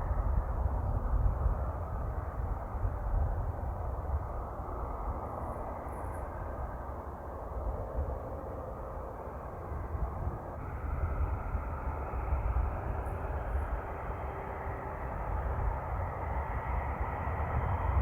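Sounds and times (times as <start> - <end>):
propeller aircraft engines rumbling: 0.0 - 18.0.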